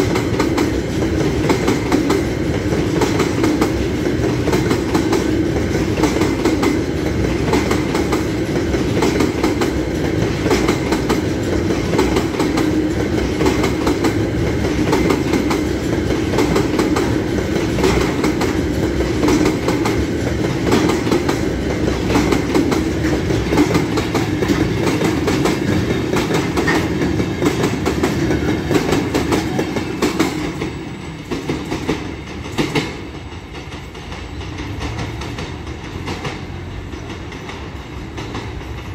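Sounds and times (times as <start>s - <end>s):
freight train rolling past: 0.0s - 38.9s
wheels clacking over rail joints: 0.0s - 38.9s.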